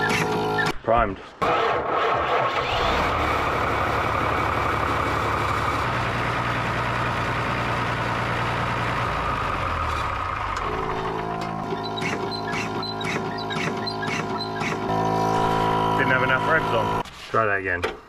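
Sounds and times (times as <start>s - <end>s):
diesel engine running: 2.4s - 17.0s.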